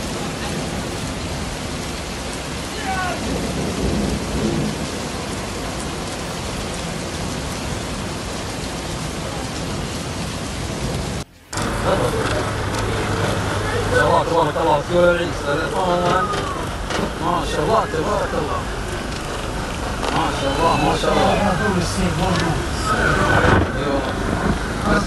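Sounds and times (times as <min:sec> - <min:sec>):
heavy rain: 0:00.0 - 0:25.0
low rumbling: 0:00.0 - 0:25.0
strong wind: 0:00.0 - 0:25.0.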